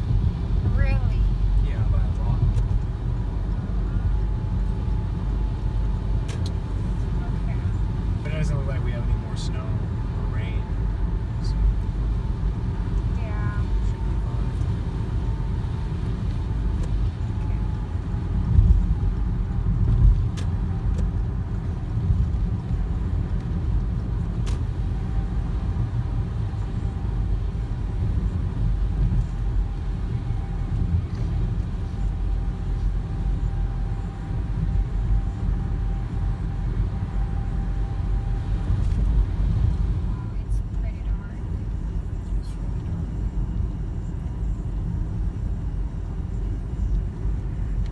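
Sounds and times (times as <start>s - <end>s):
car driving rumble: 0.0s - 47.9s.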